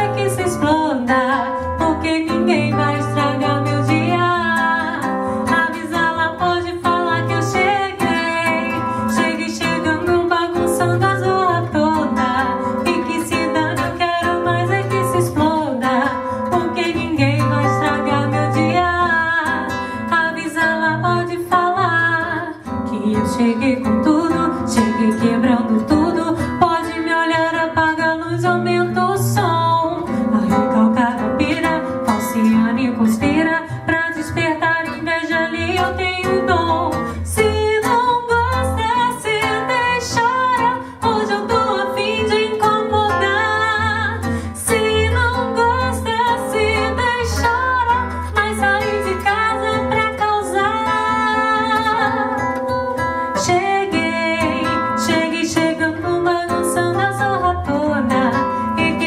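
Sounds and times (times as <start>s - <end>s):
person singing: 0.0s - 52.7s
acoustic guitar bossa accompaniment: 0.0s - 59.0s.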